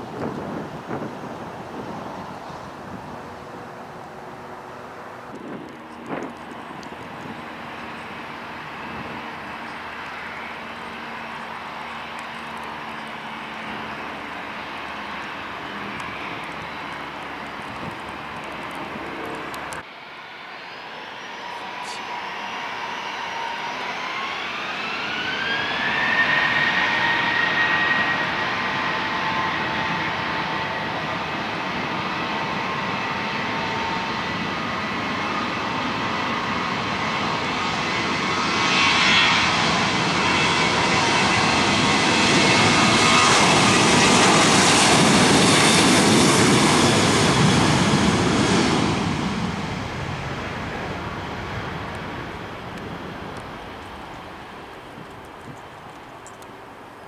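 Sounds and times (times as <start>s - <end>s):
jet takeoff roar: 0.0s - 57.0s
jet engines spooling up: 0.2s - 57.0s.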